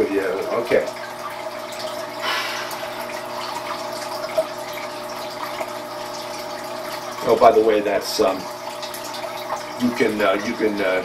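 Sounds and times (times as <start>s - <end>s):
background hum with hiss: 0.0s - 11.0s.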